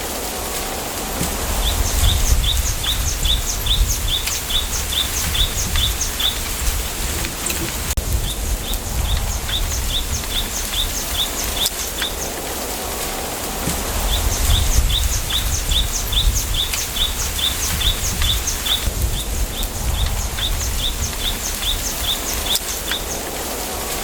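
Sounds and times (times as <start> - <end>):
wind in bamboo: 0.0 - 24.0.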